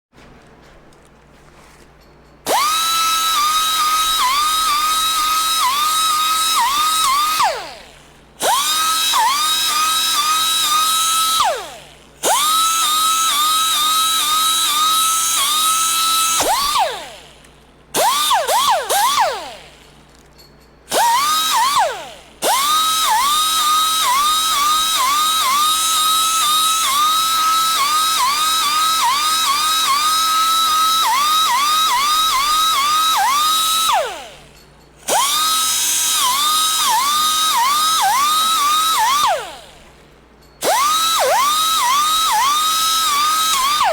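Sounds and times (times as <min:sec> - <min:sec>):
air grinder whining: 0:02.4 - 0:43.9.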